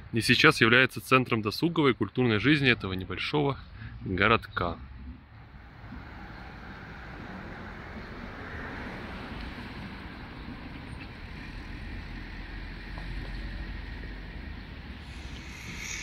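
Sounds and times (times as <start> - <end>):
street ambience rumble and hiss: 0.0 - 16.0.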